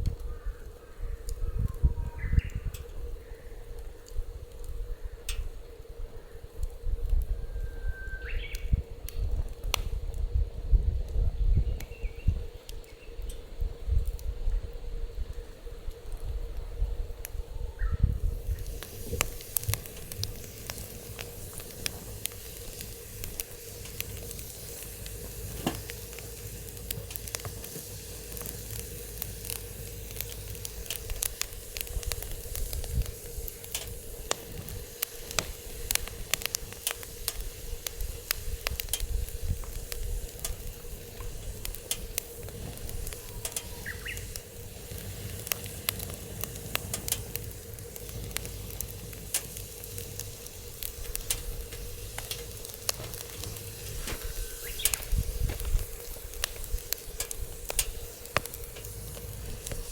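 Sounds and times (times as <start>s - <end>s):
wind rumble on microphone: 0.0s - 59.9s
wood fire crackling and popping: 0.0s - 59.9s.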